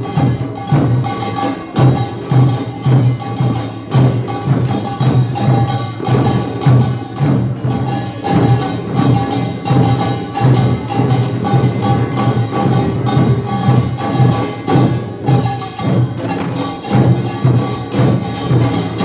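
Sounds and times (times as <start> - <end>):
percussion band playing: 0.0 - 19.0
ringing metallic tones: 0.0 - 19.0.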